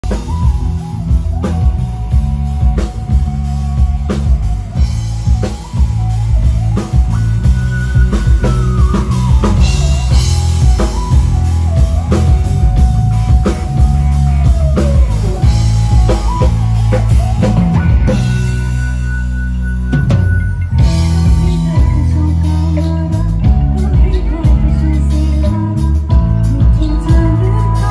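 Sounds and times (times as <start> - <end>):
sliding melody line: 0.0 - 22.7
drum kit steady beat: 0.0 - 27.9
live band music: 0.0 - 27.9.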